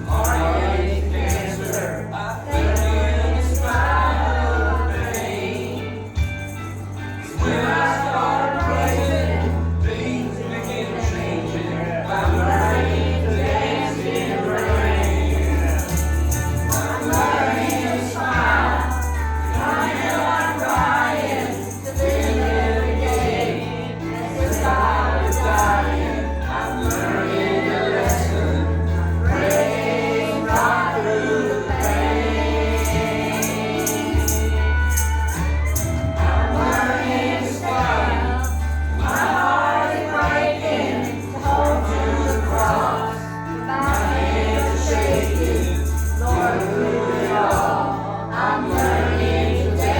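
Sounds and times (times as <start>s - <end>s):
bass line: 0.0s - 49.9s
choir singing gospel: 0.0s - 49.9s
tambourine-like percussion: 0.0s - 49.9s.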